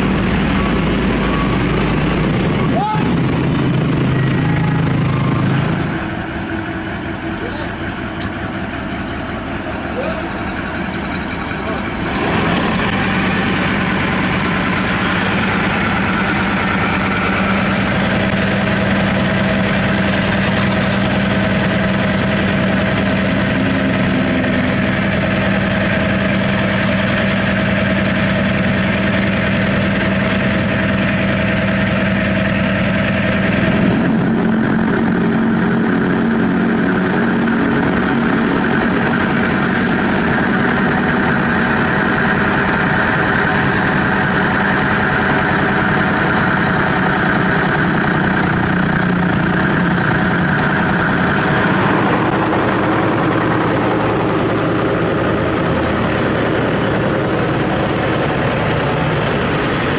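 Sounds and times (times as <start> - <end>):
heavy diesel engine idling: 0.0 - 59.9.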